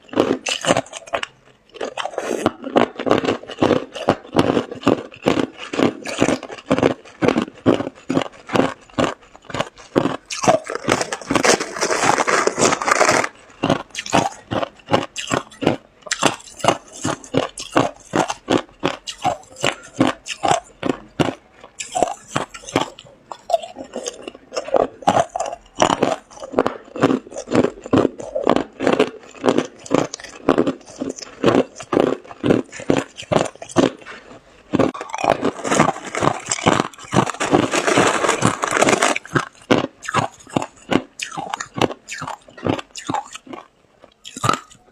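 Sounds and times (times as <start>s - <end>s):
person chewing ice: 0.0s - 44.9s.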